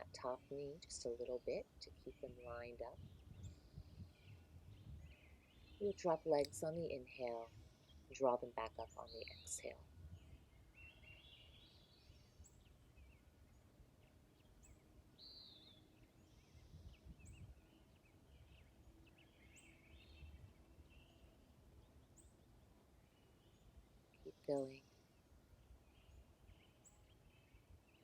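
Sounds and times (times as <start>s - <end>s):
low outdoor background noise: 0.0s - 28.0s.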